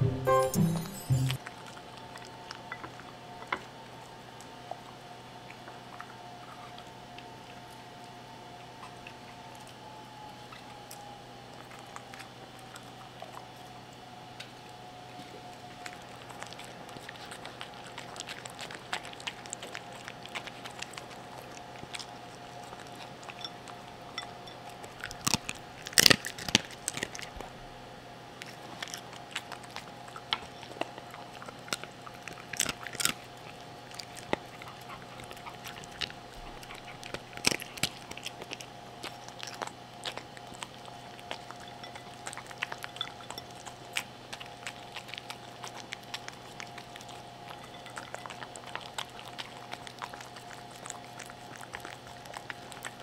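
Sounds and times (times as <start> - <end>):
chewing and lip-smacking: 1.4 - 27.6, 28.4 - 53.0
dog eating wet food: 1.4 - 53.0.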